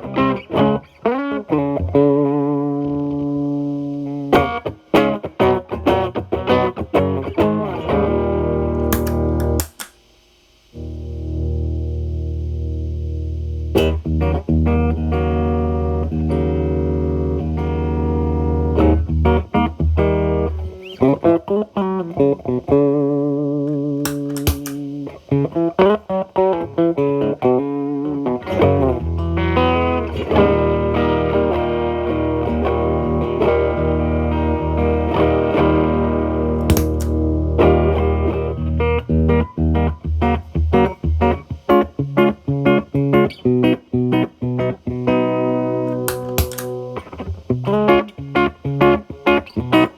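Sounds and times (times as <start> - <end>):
distorted electric guitar: 0.0 - 9.9, 10.7 - 49.9.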